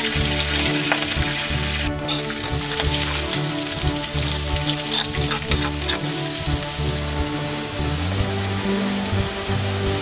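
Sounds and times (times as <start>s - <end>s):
background music: 0.0s - 10.0s
onions sizzling in hot oil: 0.0s - 10.0s.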